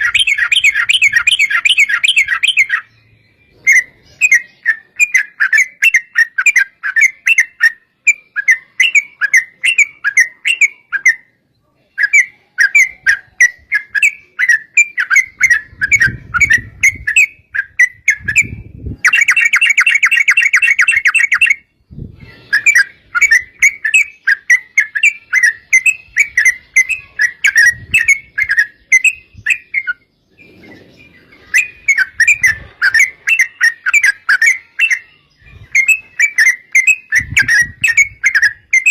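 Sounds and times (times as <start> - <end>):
bulbul chattering calls: 0.0 - 11.2, 12.0 - 38.9.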